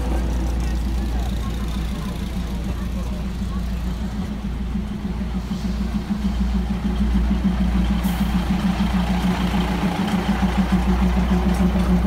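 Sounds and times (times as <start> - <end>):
train diesel engine throbbing: 0.0 - 12.0.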